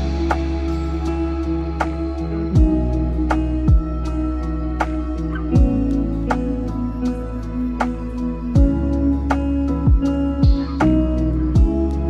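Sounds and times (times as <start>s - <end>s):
lofi hip hop music: 0.0s - 12.0s.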